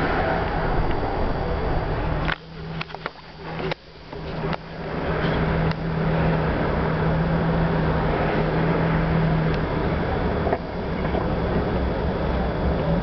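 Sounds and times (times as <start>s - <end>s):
car engine and road noise: 0.0s - 13.0s
low hum: 0.0s - 13.0s.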